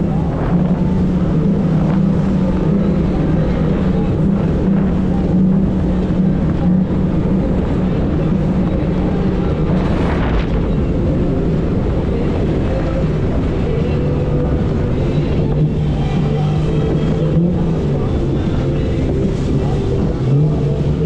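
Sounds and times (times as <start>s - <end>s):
outboard motor running: 0.0s - 21.0s
wind and water rushing: 0.0s - 21.0s.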